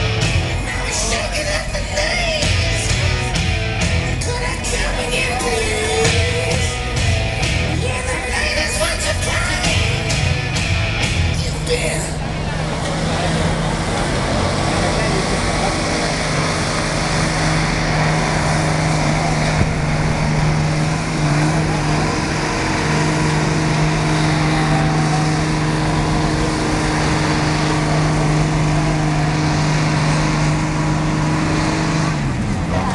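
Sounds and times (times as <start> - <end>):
diesel engine at high revs: 0.0 - 32.9.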